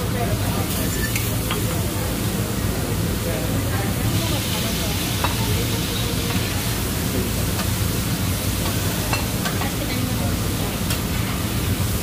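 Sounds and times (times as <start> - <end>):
food sizzling on griddle: 0.1 - 12.0.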